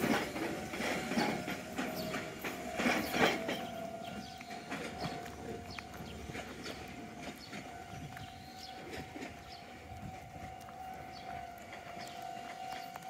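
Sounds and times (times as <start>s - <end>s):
electric train motor whine: 0.0s - 13.0s
wheels clicking over rail joints: 0.0s - 13.0s.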